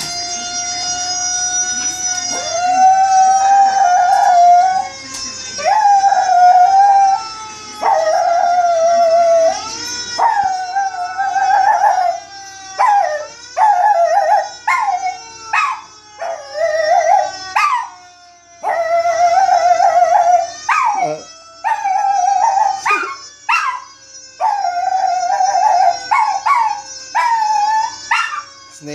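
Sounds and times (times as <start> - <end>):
fire engine siren wailing: 0.0 - 28.9
dog howling: 2.2 - 5.0, 5.6 - 18.0, 18.6 - 28.6.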